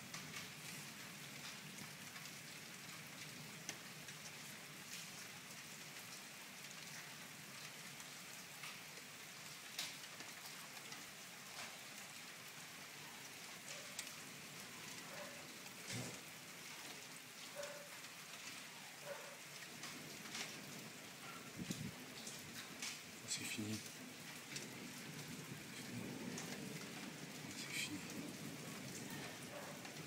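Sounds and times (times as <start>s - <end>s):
faint steady rain: 0.0s - 30.0s.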